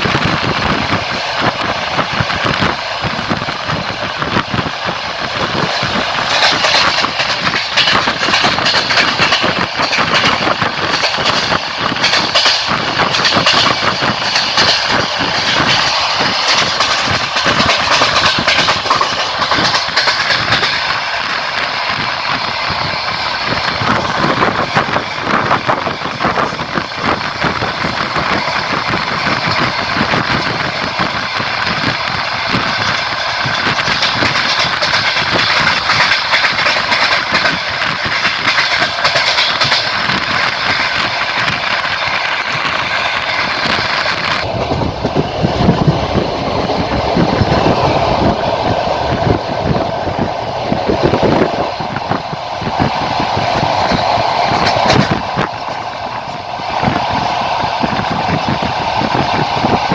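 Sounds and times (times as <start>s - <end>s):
rushing noise: 0.0s - 59.9s
train wheels clattering on rails: 0.0s - 59.9s.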